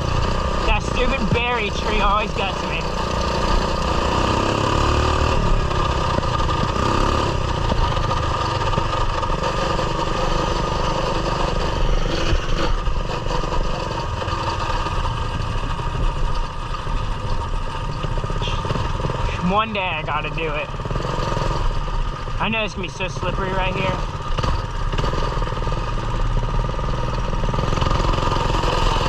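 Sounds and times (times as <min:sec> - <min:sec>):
mini bike engine running: 0:00.0 - 0:29.0.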